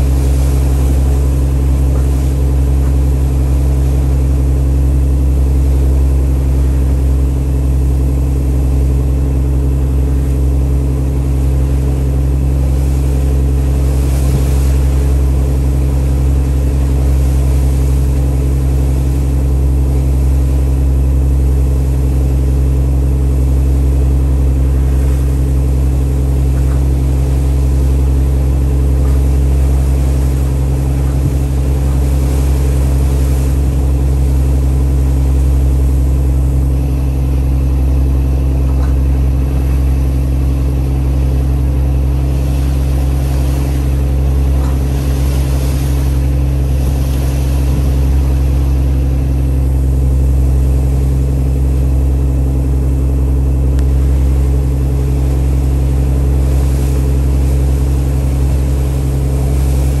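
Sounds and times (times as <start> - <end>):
boat engine humming: 0.0 - 60.0.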